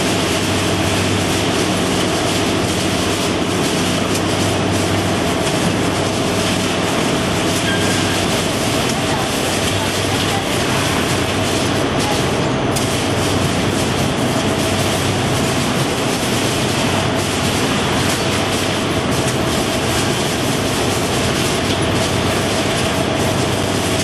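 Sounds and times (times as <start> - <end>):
conveyors running: 0.0 - 24.0.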